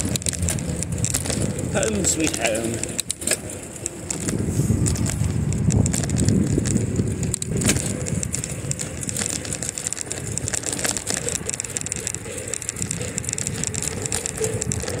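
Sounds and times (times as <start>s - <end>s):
bicycle rattling: 0.0s - 15.0s
small clicks: 0.0s - 15.0s
steady low rush: 0.0s - 15.0s.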